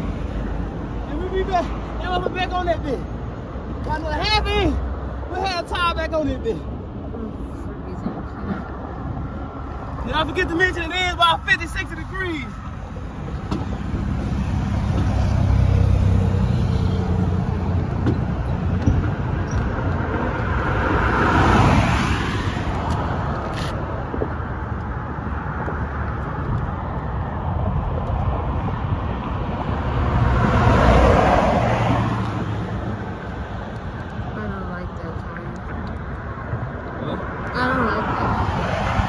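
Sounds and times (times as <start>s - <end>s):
road traffic rumble: 0.0s - 39.0s
vehicles passing: 0.0s - 39.0s.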